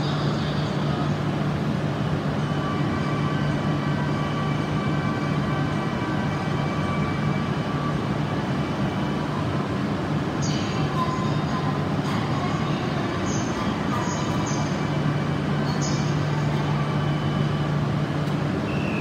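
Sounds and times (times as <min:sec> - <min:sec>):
train low hum: 0:00.0 - 0:19.0.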